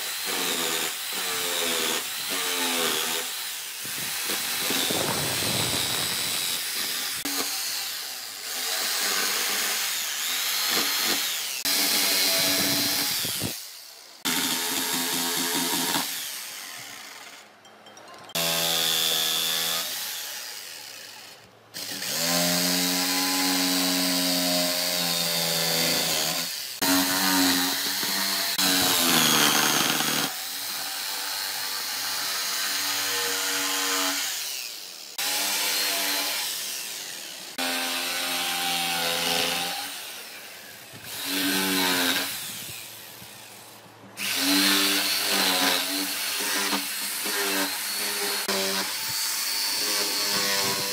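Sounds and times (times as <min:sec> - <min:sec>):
jigsaw cutting wood: 0:00.0 - 0:17.5, 0:18.4 - 0:43.6, 0:44.2 - 0:50.9.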